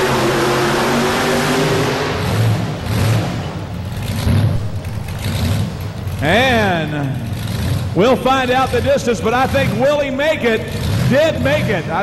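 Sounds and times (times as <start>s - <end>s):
truck engine lumpy idle: 2.2s - 12.0s.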